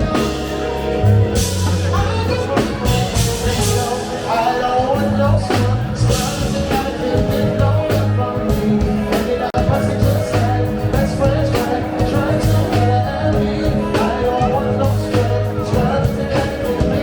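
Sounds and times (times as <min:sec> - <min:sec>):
funk band playing: 0:00.0 - 0:17.0
person singing: 0:00.0 - 0:17.0.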